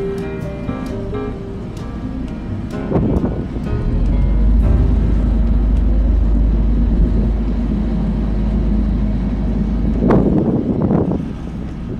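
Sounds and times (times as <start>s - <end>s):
boat engine rumble: 0.0s - 11.9s
wind on microphone: 2.2s - 11.9s.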